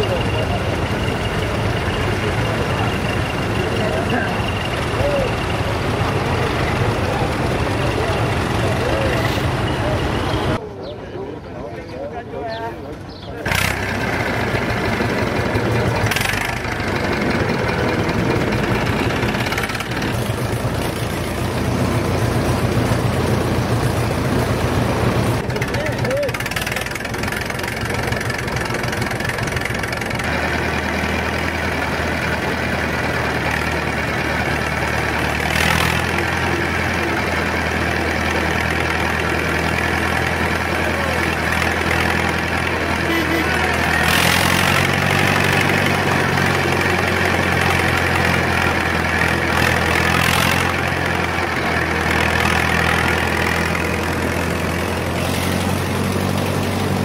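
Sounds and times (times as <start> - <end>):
tractor engine running: 0.0 - 10.6, 12.8 - 57.0.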